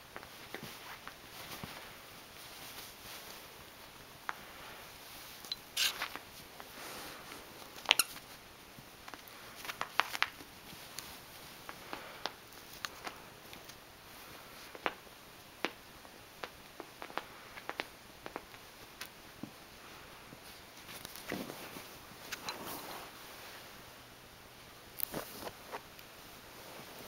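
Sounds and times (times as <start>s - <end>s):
soft clicks and rustles: 0.0s - 23.8s, 24.7s - 27.0s.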